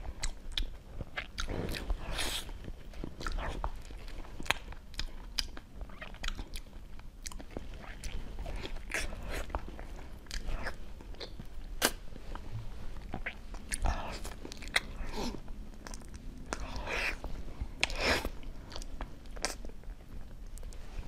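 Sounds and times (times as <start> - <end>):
wet chewing and lip smacks: 0.2 - 12.0, 13.0 - 20.8.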